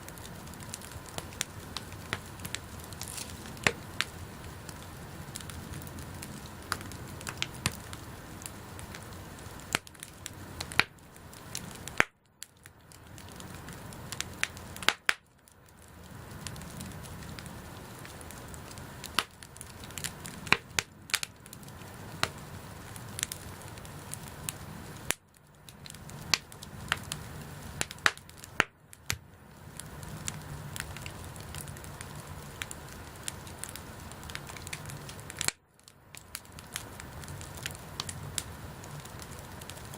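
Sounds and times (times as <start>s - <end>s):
bonfire pops and crackles: 0.0s - 39.9s
low hiss of flames: 0.0s - 39.9s.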